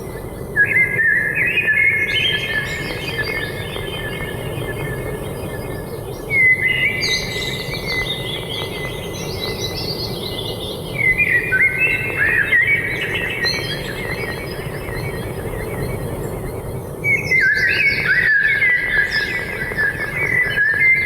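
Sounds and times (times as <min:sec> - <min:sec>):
songbirds chirping and whistling: 0:00.0 - 0:21.0.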